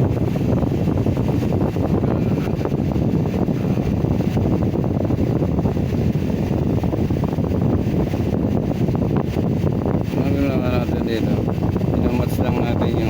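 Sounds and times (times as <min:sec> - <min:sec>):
air conditioner running: 0:00.0 - 0:13.0.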